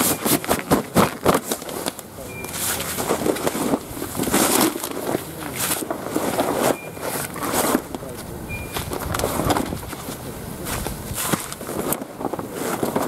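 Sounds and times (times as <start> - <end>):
kayak fabric rustling and flapping: 0.0 - 8.0, 8.7 - 13.0.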